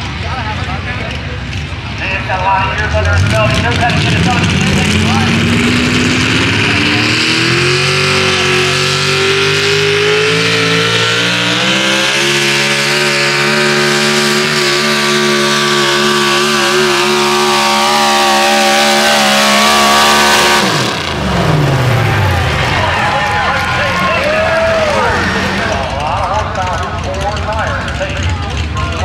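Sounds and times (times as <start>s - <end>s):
truck engine running flat out: 0.0s - 29.0s.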